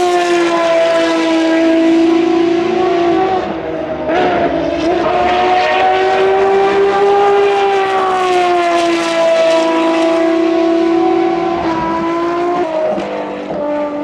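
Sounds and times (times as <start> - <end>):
race car engines at high revs: 0.0 - 14.0.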